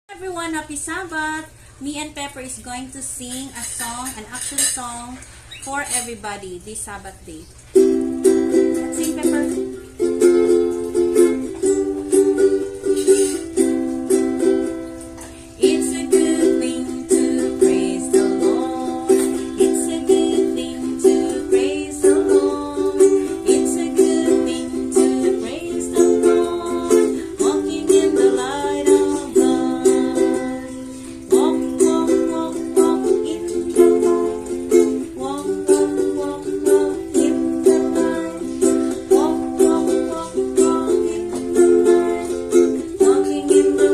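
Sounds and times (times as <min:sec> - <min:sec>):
ukulele strumming: 0:02.4 - 0:05.2, 0:07.6 - 0:43.9
sung or whistled melody: 0:07.4 - 0:43.9.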